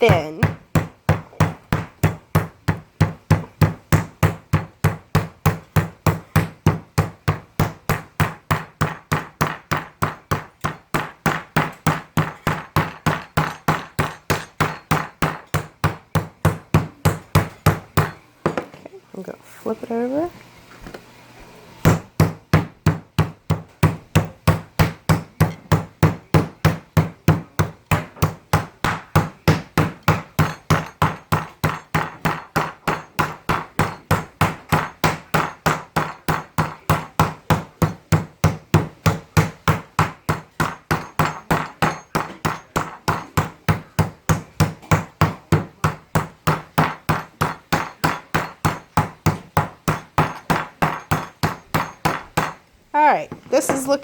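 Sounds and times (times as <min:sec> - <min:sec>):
mallet pounding steak: 0:00.0 - 0:18.7, 0:21.8 - 0:52.7.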